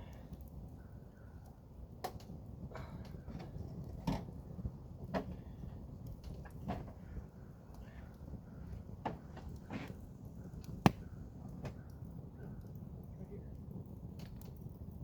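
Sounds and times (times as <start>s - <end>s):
burning wood popping: 0.0s - 15.0s
campfire rumble: 0.0s - 15.0s.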